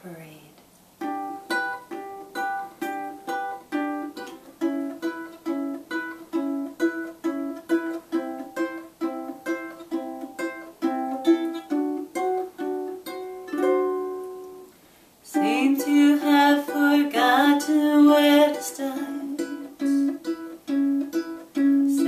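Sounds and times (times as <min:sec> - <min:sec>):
solo ukulele playing: 0:01.0 - 0:14.7, 0:15.3 - 0:22.0.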